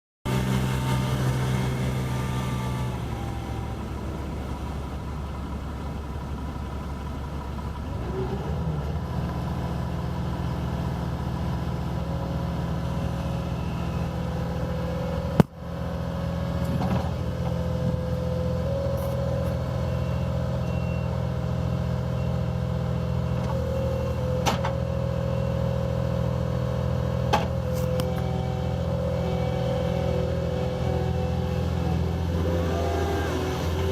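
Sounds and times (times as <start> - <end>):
diesel engine running: 0.3 - 33.9.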